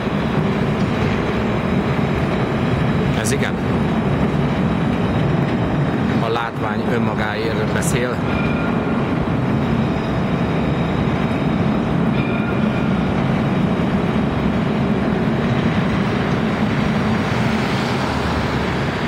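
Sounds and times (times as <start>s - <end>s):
faint whine: 0.0s - 18.1s
tram wheels rumbling on rails: 0.0s - 19.0s.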